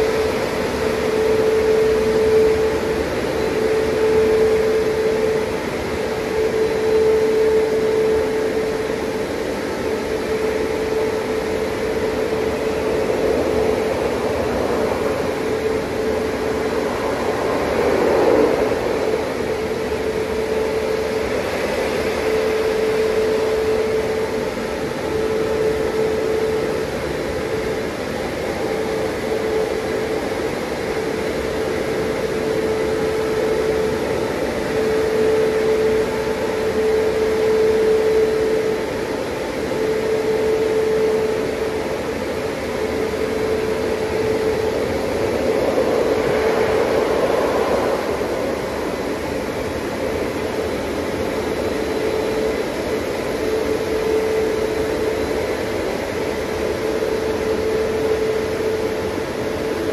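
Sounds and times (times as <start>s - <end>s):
car wash blowers rushing air: 0.0s - 59.9s.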